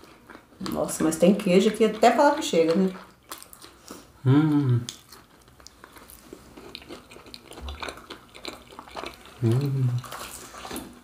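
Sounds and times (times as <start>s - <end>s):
crunchy chewing: 0.0s - 4.2s, 4.8s - 11.0s.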